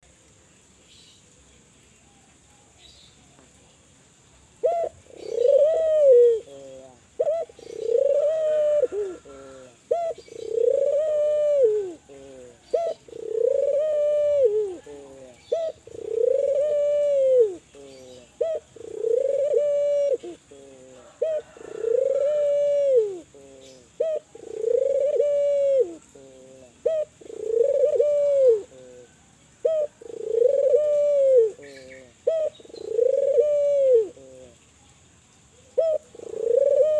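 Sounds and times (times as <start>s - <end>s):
dove cooing: 4.6s - 34.6s, 35.7s - 36.9s.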